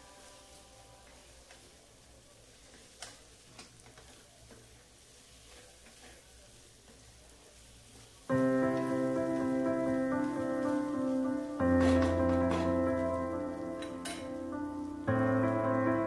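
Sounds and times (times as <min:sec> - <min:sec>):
faint frying sizzle: 0:00.0 - 0:16.0.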